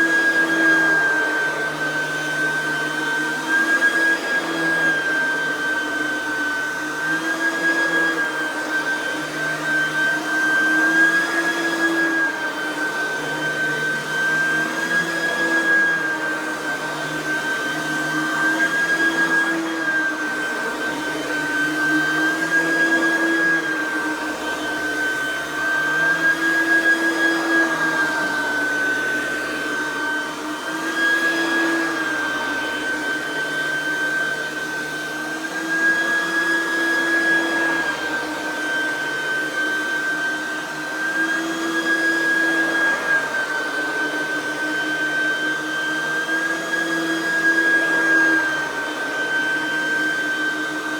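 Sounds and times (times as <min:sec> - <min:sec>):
upright vacuum whining: 0:00.0 - 0:50.9.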